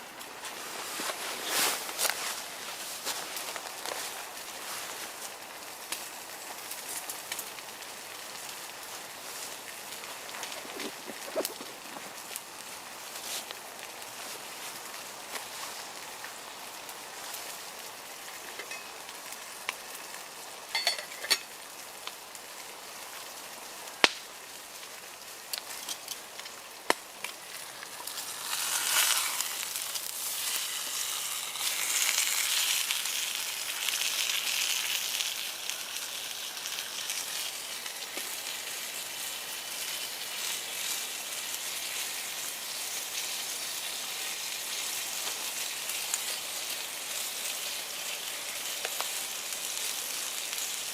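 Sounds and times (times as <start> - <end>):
steak sizzling in a pan: 0.5 - 50.9.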